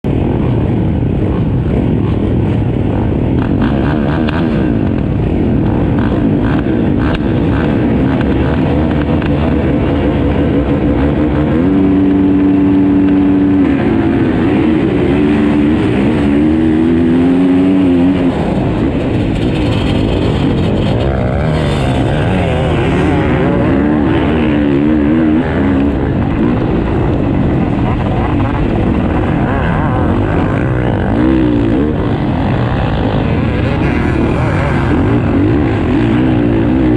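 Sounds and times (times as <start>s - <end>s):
motocross bike engines revving: 0.1s - 36.9s.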